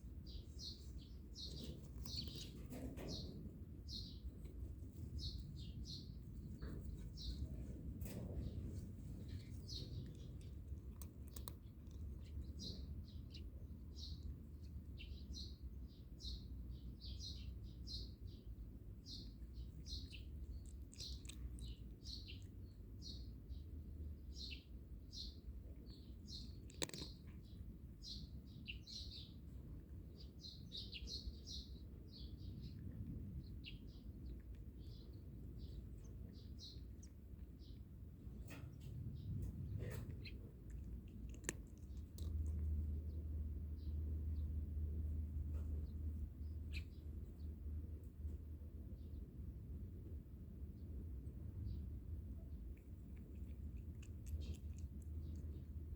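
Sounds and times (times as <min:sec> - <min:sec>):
low background rumble: 0:00.0 - 0:55.9
small birds chirping: 0:00.0 - 0:55.9.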